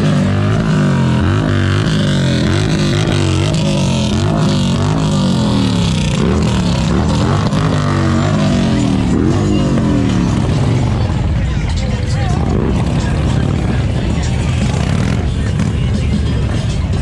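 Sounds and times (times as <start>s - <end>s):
motorcycles revving: 0.0s - 17.0s.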